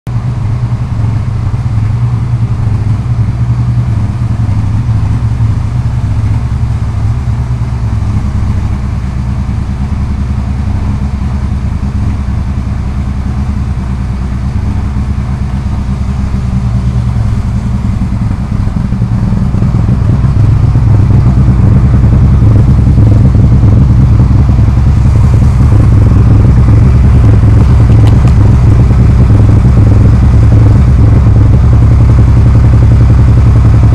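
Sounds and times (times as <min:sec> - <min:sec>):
car engine droning: 0:00.0 - 0:33.9.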